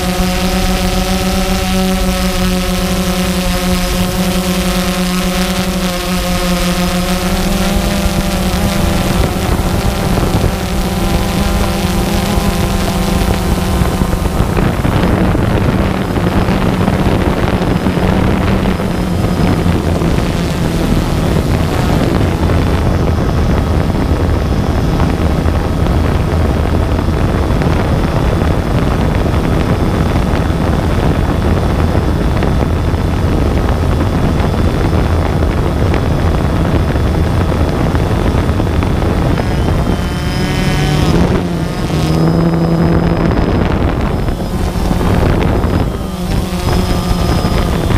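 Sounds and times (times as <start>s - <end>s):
drone motors and propellers: 0.0s - 47.9s
wind buffeting microphone: 0.0s - 47.9s.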